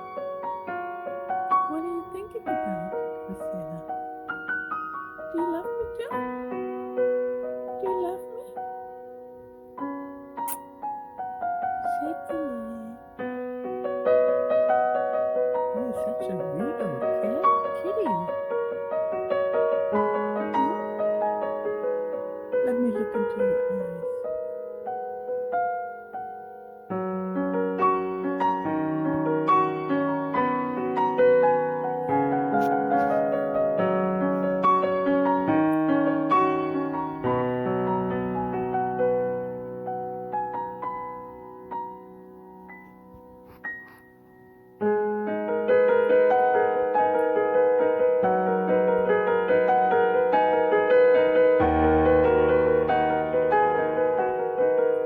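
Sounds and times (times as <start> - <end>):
slow piano music: 0.0 - 55.0.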